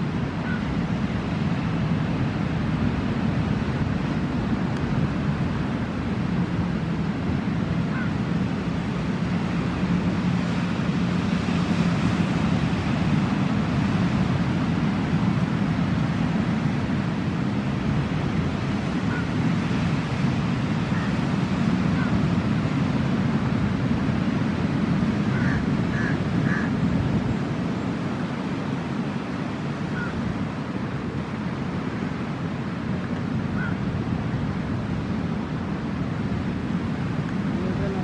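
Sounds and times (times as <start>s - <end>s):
ocean surf rumbling: 0.0s - 38.0s
wind: 0.0s - 38.0s.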